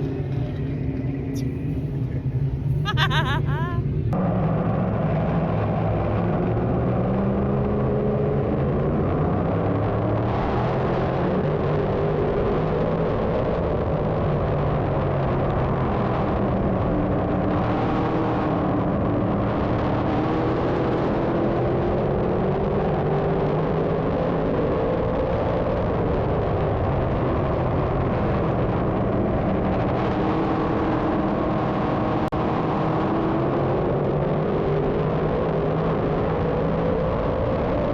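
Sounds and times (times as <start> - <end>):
race car engines droning: 0.0 - 37.9.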